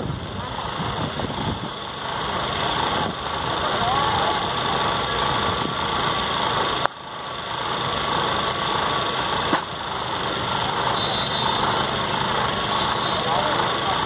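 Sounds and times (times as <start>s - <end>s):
steady rushing background noise: 0.0s - 14.0s.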